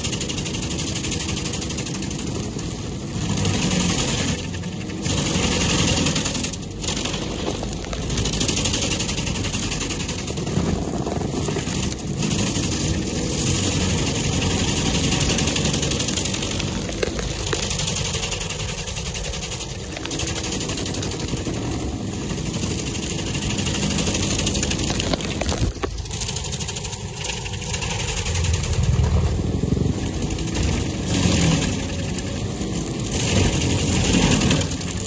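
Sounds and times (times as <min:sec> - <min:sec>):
stump grinder grinding wood: 0:00.0 - 0:35.0.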